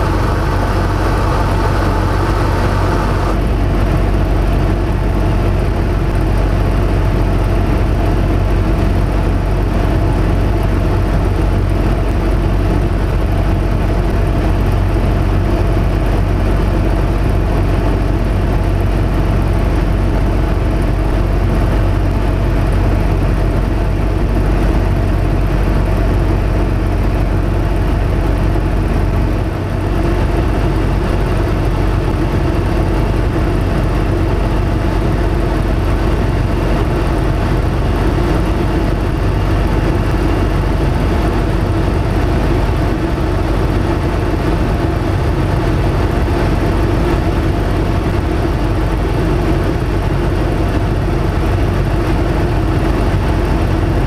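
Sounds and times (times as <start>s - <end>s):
propeller aircraft engine drone: 0.0s - 54.0s.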